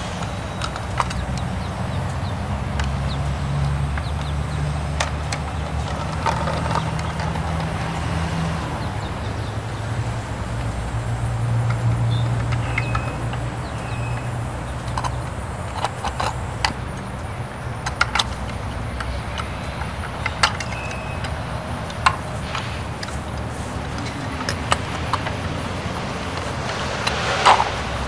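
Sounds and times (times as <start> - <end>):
sharp clicks: 0.0 - 28.0
truck diesel engine droning: 0.0 - 28.0.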